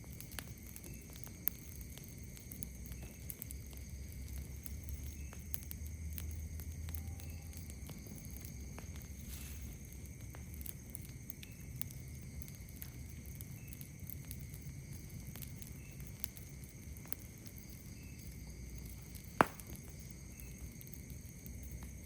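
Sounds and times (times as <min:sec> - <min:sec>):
campfire crackling and popping: 0:00.0 - 0:22.0
night insects droning: 0:00.0 - 0:22.0.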